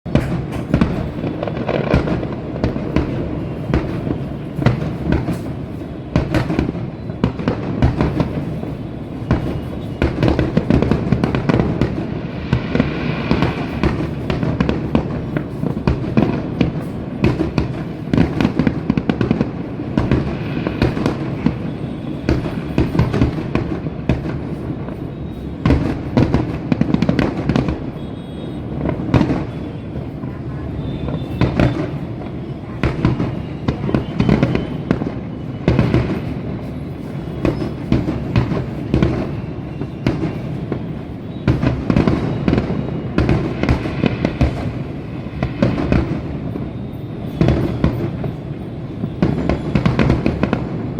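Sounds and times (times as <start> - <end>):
fireworks bangs and crackling: 0.0 - 50.9
firework whistling: 0.1 - 50.9.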